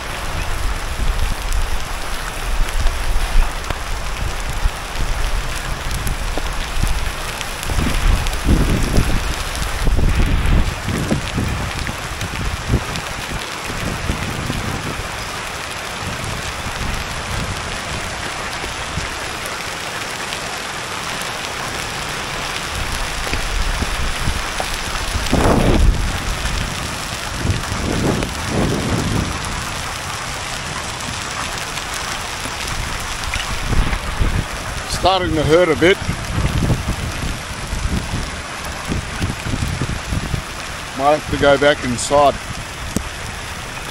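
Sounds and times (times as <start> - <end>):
hail and heavy rain on asphalt: 0.0 - 43.9.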